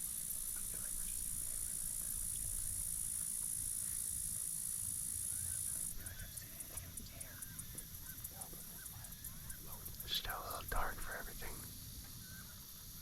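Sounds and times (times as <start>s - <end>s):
insects buzzing: 0.0s - 13.0s
insects chirping: 0.0s - 13.0s.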